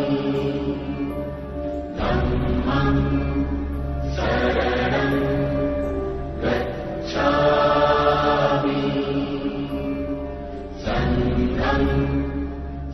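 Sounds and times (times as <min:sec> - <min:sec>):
chanting: 0:00.0 - 0:12.9
steady low drone: 0:00.0 - 0:12.9.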